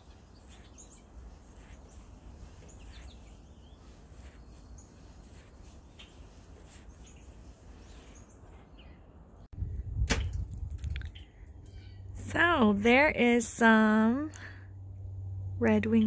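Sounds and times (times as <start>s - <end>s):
songbirds chirping faintly: 0.0s - 9.6s, 10.8s - 16.0s
low steady rumble: 0.0s - 16.0s.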